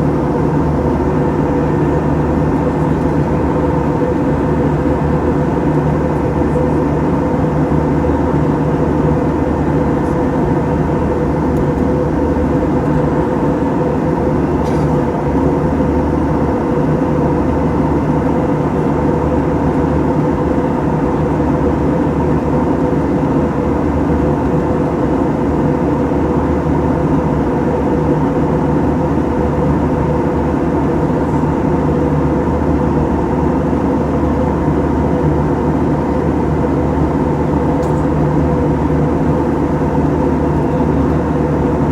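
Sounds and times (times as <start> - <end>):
aircraft cabin drone: 0.0 - 41.9.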